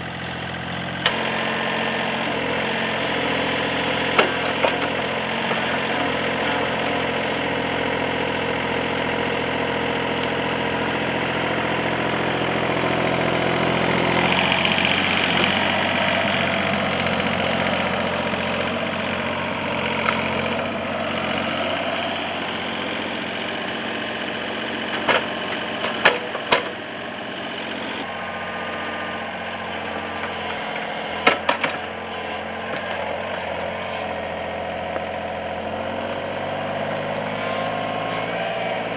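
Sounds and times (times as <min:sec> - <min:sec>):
excavator diesel engine running: 0:00.0 - 0:38.9
hydraulics working: 0:00.0 - 0:38.9.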